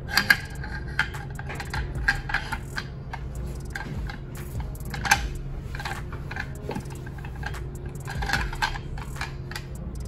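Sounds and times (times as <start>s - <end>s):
metal bolt carrier clicks and scrapes: 0.0s - 9.9s.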